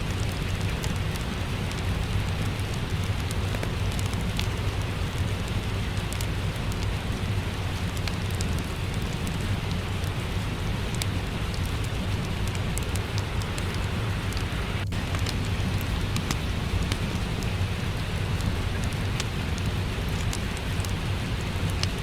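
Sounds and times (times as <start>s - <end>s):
crackling wood fire: 0.0s - 22.0s
deep rumble: 0.0s - 22.0s
steady rain: 0.0s - 22.0s.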